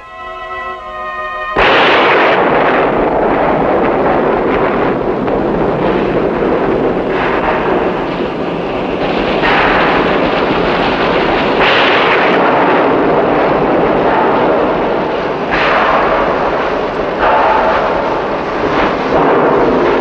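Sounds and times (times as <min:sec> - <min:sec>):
factory machinery roar: 0:00.0 - 0:20.0.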